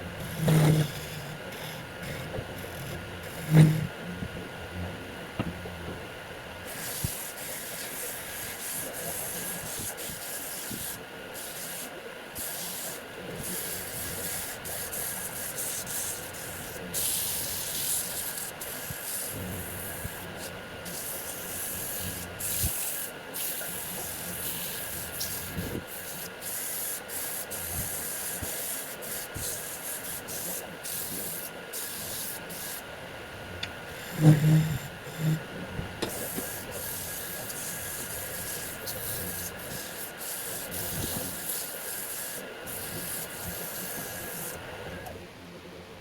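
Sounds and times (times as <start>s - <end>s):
sandpaper hissing on spinning wood: 0.2s - 3.9s, 6.7s - 32.8s, 33.9s - 35.4s, 36.0s - 44.6s.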